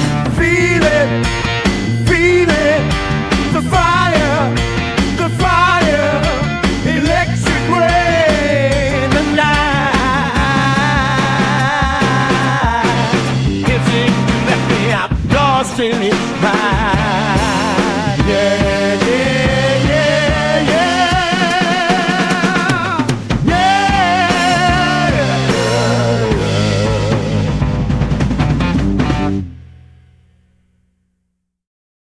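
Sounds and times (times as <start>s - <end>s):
bass line: 0.0s - 30.8s
drums: 0.0s - 30.8s.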